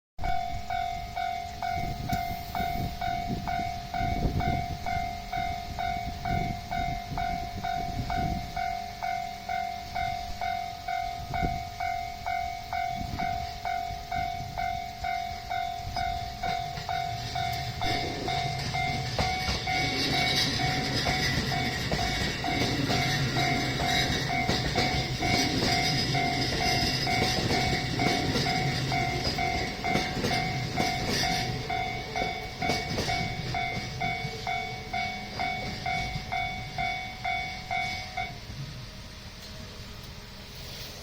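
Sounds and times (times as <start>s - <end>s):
level crossing warning bell: 0.2s - 40.5s
electric train running: 0.2s - 41.0s.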